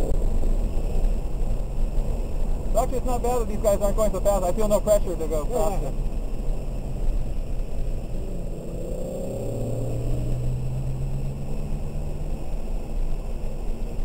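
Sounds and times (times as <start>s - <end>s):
car engine from inside cabin: 0.0s - 14.0s
tyres rumbling on wet road: 0.0s - 14.0s.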